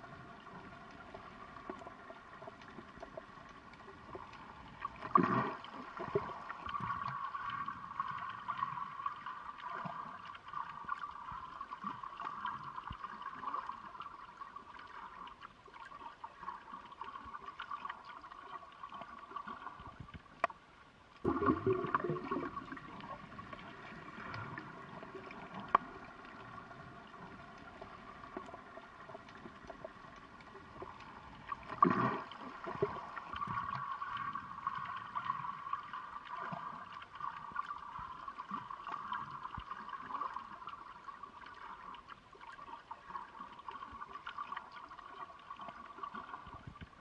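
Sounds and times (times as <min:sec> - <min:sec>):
water gurgling and bubbling: 0:00.0 - 0:20.2, 0:21.2 - 0:47.0.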